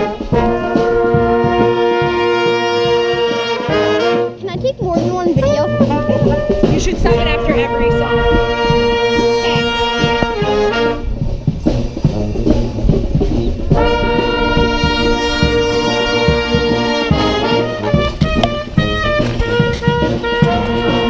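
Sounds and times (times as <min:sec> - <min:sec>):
brass horns playing chords: 0:00.0 - 0:21.0
steady drum beat: 0:00.0 - 0:21.0.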